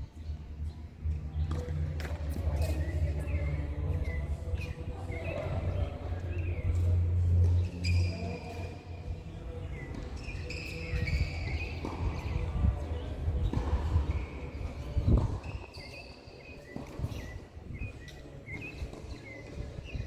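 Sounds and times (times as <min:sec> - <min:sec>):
wind rumbling on microphone: 0:00.0 - 0:15.9, 0:16.7 - 0:20.0.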